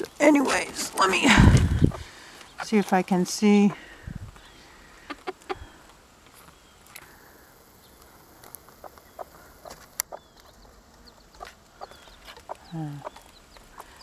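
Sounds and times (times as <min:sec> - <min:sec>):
chicks peeping: 0:01.3 - 0:03.8, 0:04.4 - 0:07.0, 0:07.7 - 0:14.0.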